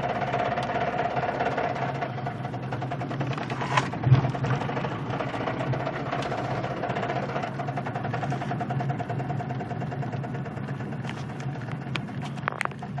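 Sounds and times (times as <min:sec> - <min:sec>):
car engine knocking: 0:00.0 - 0:13.0.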